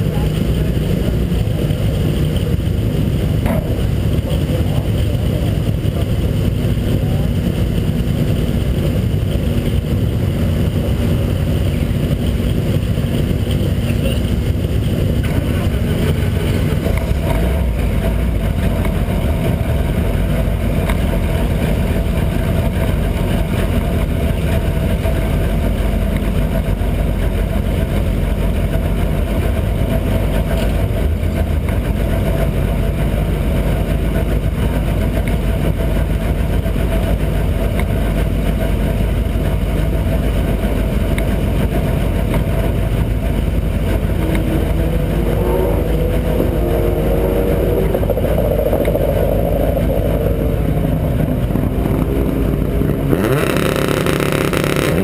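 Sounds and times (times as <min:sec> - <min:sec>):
race car engine idling: 0:00.0 - 0:55.0.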